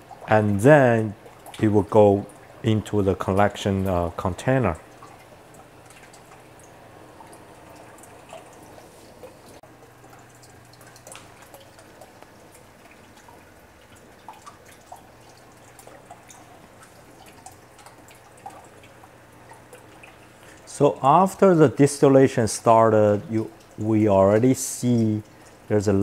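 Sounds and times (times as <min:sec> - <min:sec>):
faint irregular water drips: 0:00.0 - 0:26.0.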